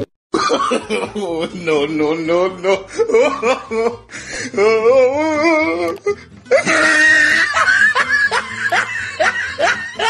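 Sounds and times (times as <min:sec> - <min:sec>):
person laughing hard: 0:00.4 - 0:01.8, 0:02.6 - 0:10.0.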